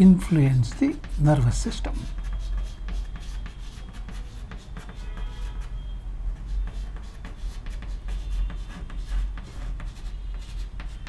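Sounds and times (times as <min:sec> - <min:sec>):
chalk scratching on chalkboard: 0:00.0 - 0:11.0.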